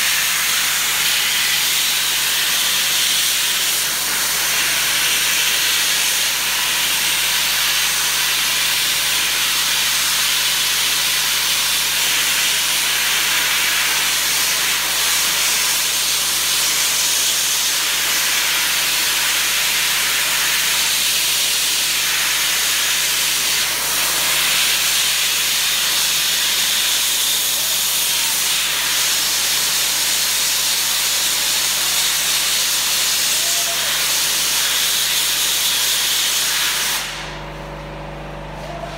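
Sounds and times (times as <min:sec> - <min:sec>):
sandblasting nozzle hissing: 0:00.0 - 0:10.0, 0:11.4 - 0:37.3.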